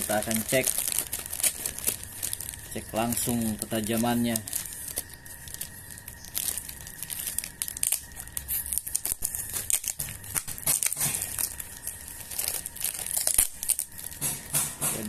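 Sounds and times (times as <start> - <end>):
plastic packaging crinkling and tearing: 0.0 - 15.0.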